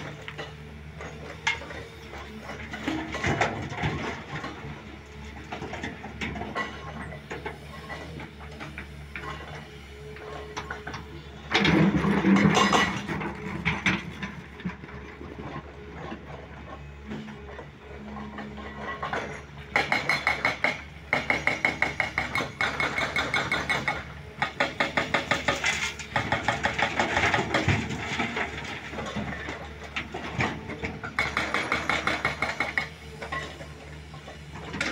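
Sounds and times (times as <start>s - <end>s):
diesel machinery running: 0.0s - 34.9s.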